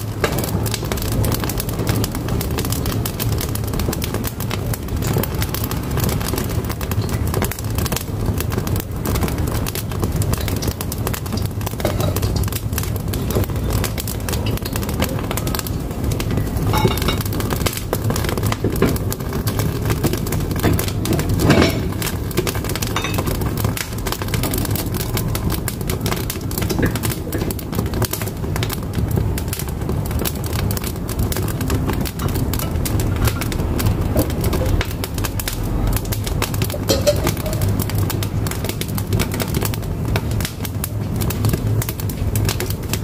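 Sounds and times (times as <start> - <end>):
firewood crackling and popping: 0.0 - 43.0
low stove rumble: 0.0 - 43.0.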